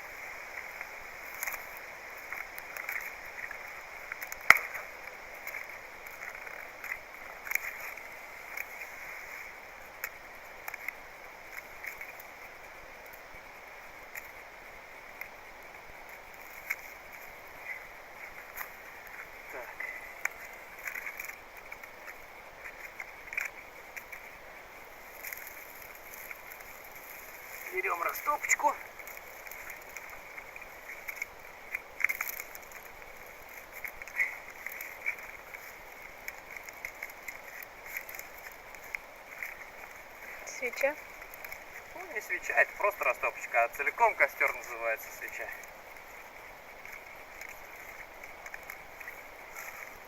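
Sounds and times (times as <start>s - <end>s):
kindling crackling and snapping: 0.0s - 50.0s
outdoor background hiss: 0.0s - 50.0s.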